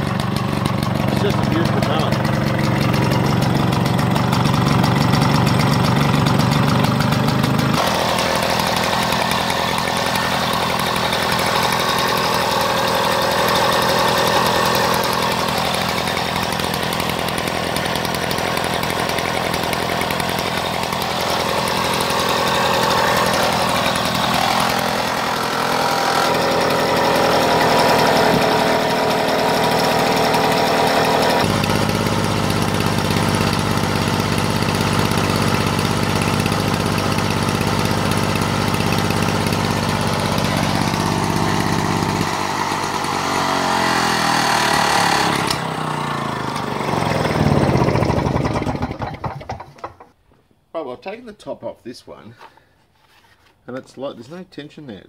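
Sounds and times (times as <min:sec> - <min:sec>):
two-stroke lawn mower engine: 0:00.0 - 0:50.2.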